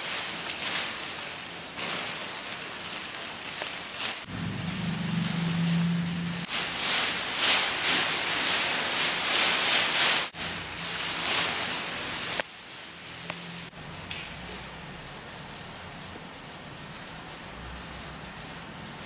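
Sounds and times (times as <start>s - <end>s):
foil crackling rustle: 0.0s - 19.0s.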